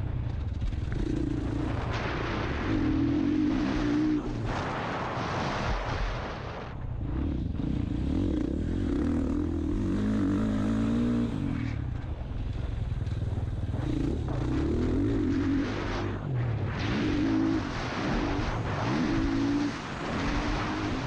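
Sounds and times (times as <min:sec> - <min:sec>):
dirt bike engine: 0:00.0 - 0:05.3, 0:06.7 - 0:21.0
wind noise: 0:00.0 - 0:21.0.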